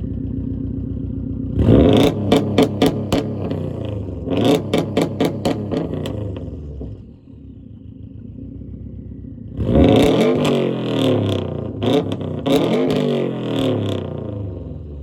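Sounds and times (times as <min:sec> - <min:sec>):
car engine revving with crackles: 0:00.0 - 0:15.0.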